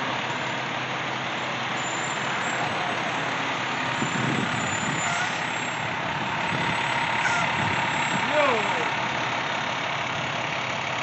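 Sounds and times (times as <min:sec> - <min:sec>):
fire truck engine running: 0:00.0 - 0:11.0.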